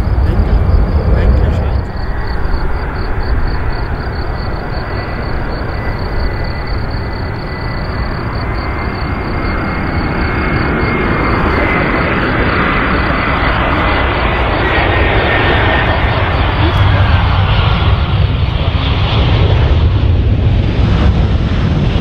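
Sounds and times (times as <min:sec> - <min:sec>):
thin high jet whine: 0:00.0 - 0:20.7
airliner engine noise: 0:00.0 - 0:22.0.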